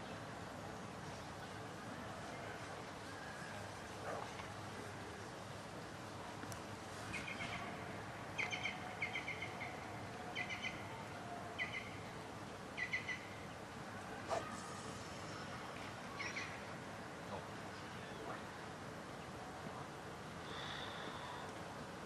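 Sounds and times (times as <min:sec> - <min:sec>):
faint outdoor background noise: 0:00.0 - 0:22.0.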